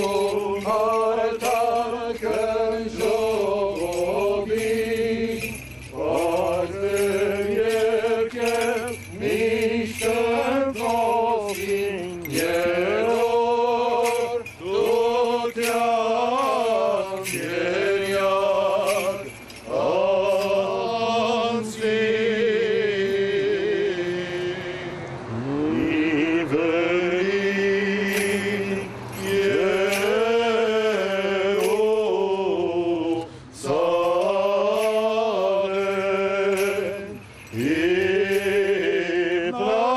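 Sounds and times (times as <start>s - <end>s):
clergy chanting: 0.0s - 39.9s.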